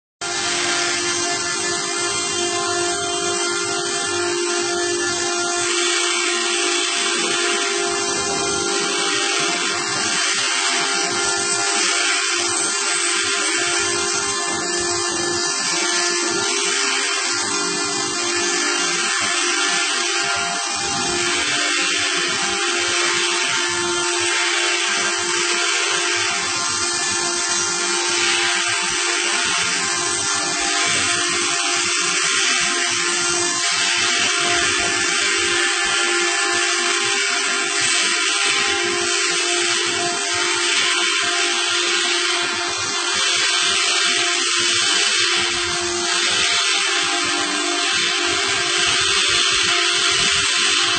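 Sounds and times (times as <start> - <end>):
machinery whine and hiss: 0.2 - 50.9.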